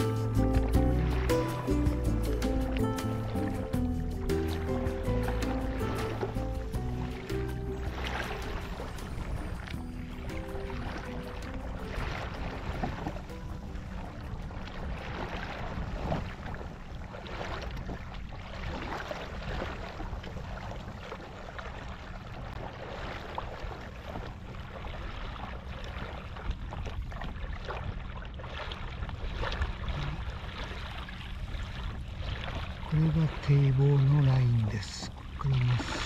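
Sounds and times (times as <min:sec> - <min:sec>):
low wind rumble on microphone: 0:00.0 - 0:33.0
water lapping against hull: 0:00.0 - 0:36.0.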